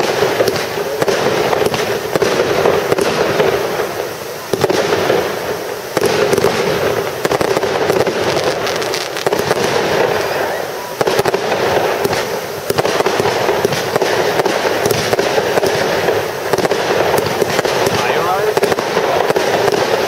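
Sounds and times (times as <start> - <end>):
firework shells bursting: 0.0 - 20.0
fireworks crackling: 0.0 - 20.0.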